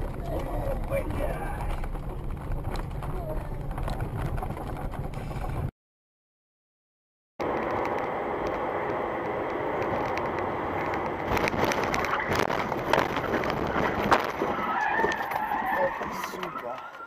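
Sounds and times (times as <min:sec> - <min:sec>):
car road noise from inside: 0:00.0 - 0:05.7, 0:07.4 - 0:17.0.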